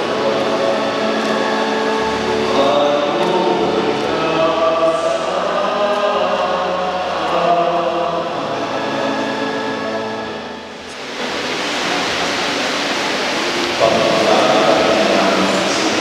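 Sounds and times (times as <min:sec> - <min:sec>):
group of voices singing: 0:00.0 - 0:11.8, 0:13.7 - 0:16.0.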